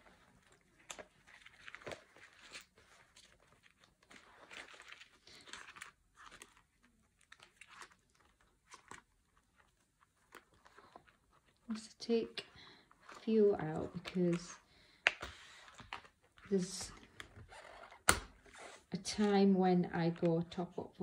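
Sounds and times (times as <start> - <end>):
plastic envelopes crinkling: 0.0 - 21.0.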